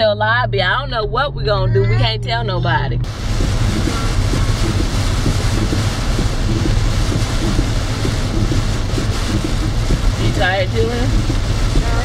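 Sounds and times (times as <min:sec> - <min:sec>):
tyre road and rain noise: 0:00.0 - 0:12.0.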